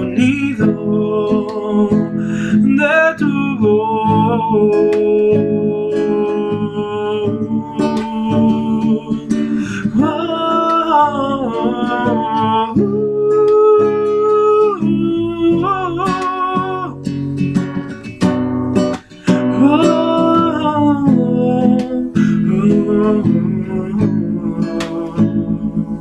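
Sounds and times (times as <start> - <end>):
person singing: 0.0 - 17.2, 19.0 - 26.0
acoustic guitar strumming: 0.0 - 26.0.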